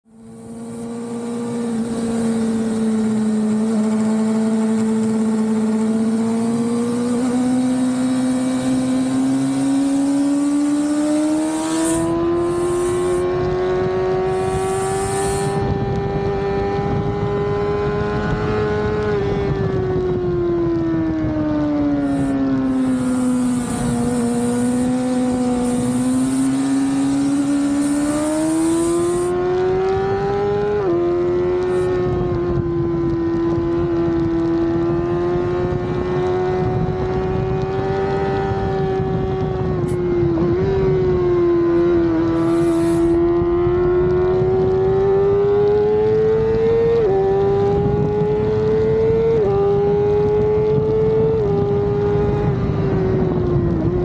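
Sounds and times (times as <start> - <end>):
motorcycle engine at speed: 0.0 - 54.0
wind rushing over microphone: 0.0 - 54.0.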